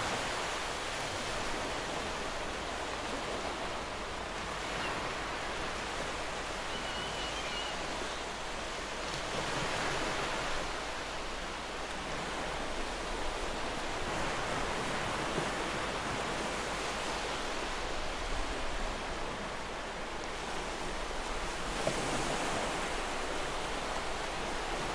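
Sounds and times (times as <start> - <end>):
sea surf on shore: 0.0 - 24.9.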